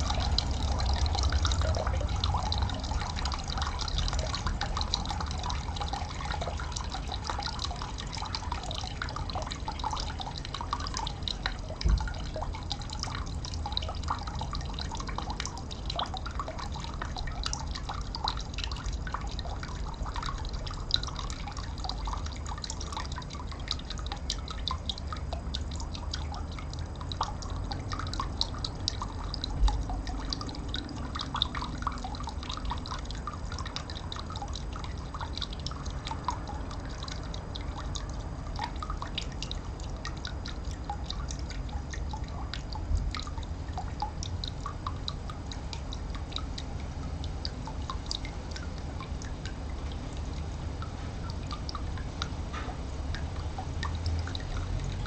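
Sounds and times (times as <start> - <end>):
water dripping and trickling: 0.0 - 55.0.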